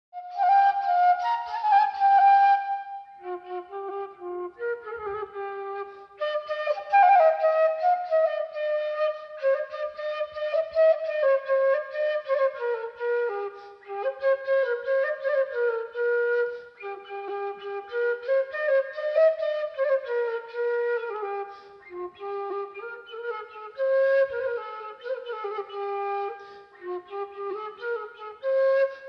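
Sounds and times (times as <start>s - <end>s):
flute melody: 0.2s - 29.0s.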